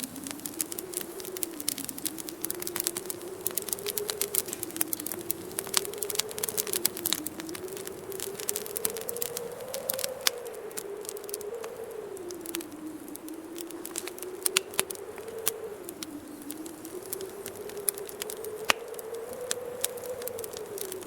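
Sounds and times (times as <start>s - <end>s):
wind howling: 0.0s - 21.0s
wood fire crackling: 0.0s - 21.0s.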